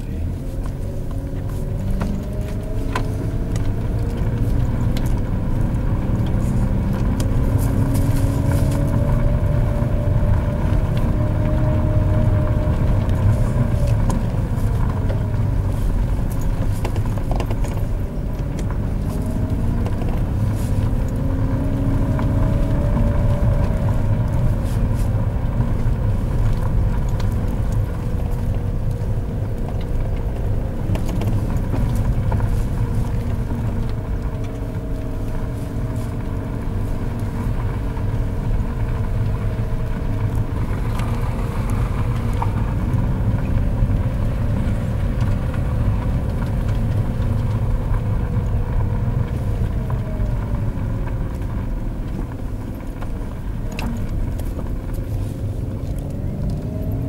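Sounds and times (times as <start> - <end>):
car engine heard from inside cabin: 0.0 - 57.0
low road rumble: 0.0 - 57.0.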